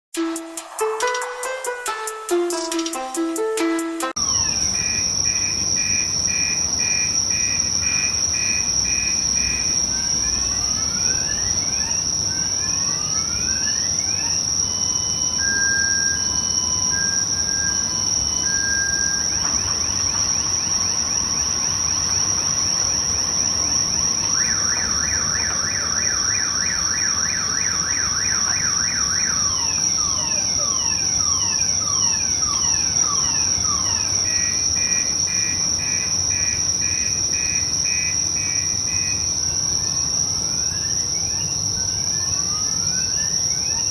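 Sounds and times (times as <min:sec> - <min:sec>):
car alarm: 0:03.3 - 0:39.9
high insect chirring: 0:04.2 - 0:43.9.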